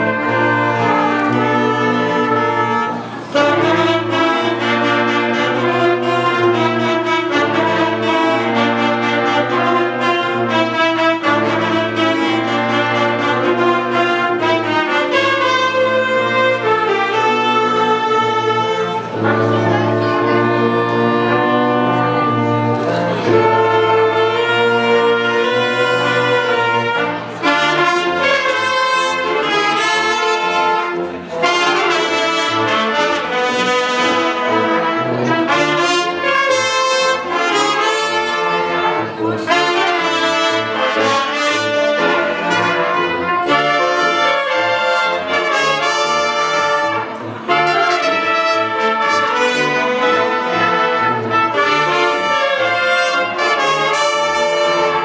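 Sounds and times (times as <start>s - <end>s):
wind band playing a tune: 0.0s - 55.0s.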